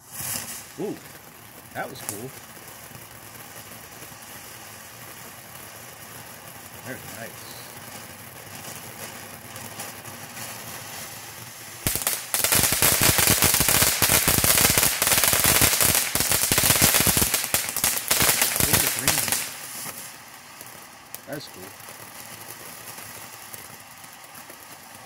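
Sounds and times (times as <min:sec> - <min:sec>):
firework crackling: 0:00.0 - 0:25.0
ground firework hissing: 0:00.0 - 0:25.0.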